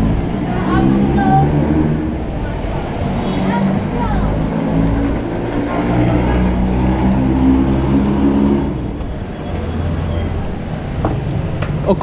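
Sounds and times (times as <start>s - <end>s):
large vehicle engine droning: 0.0s - 12.0s
road traffic: 0.0s - 12.0s.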